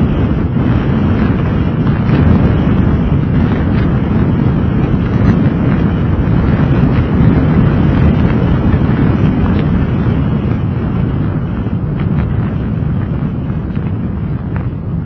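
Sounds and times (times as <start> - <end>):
car rumbling along road: 0.0 - 15.0
tyre and road noise: 0.0 - 15.0
wind buffeting microphone: 0.0 - 15.0.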